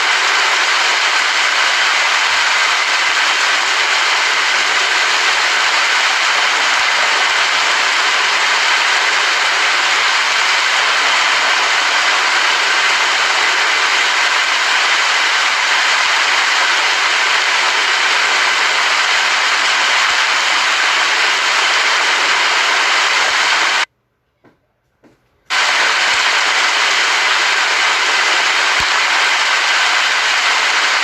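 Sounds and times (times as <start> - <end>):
heavy rain hissing: 0.0 - 23.9, 25.5 - 31.0.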